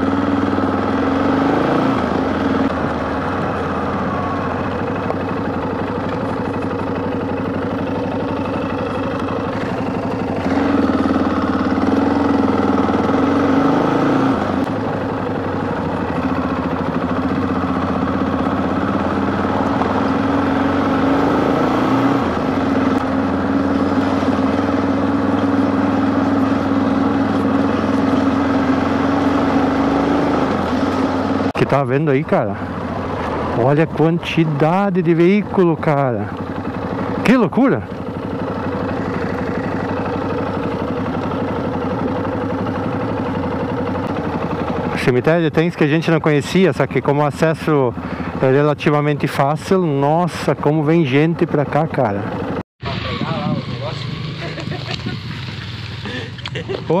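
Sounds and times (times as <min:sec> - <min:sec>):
single-cylinder motorcycle engine running: 0:00.0 - 0:57.0.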